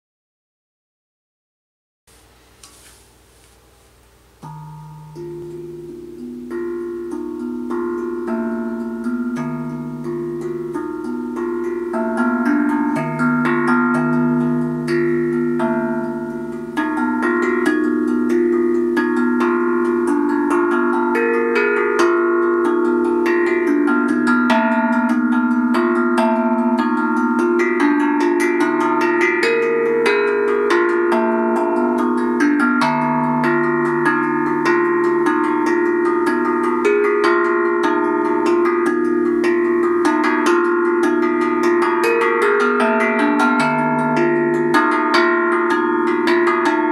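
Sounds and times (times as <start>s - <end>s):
handpan melody: 4.4s - 46.9s.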